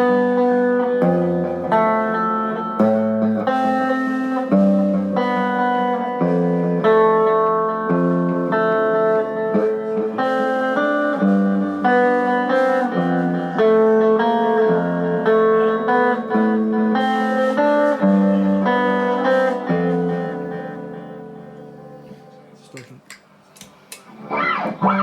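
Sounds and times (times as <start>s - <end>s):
clean electric guitar: 0.0s - 23.0s, 23.7s - 25.0s.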